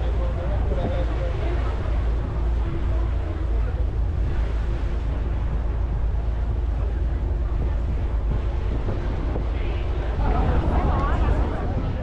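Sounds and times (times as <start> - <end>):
boat engine rumble: 0.0 - 12.0
wind noise on microphone: 0.0 - 12.0.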